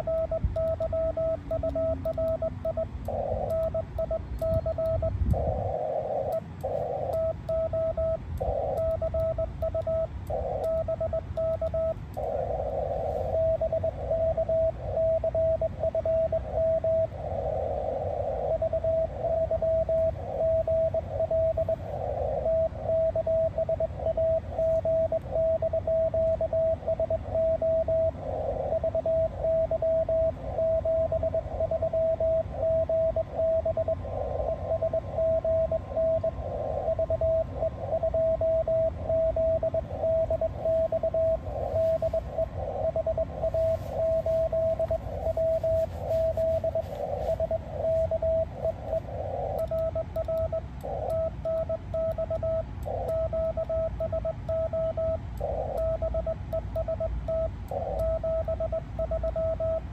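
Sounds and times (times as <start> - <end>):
radio interference bursts: 0.0 - 56.4
morse code tone: 0.0 - 59.9
radio band hiss: 1.8 - 8.9, 9.9 - 30.8, 31.4 - 51.9, 55.2 - 56.0.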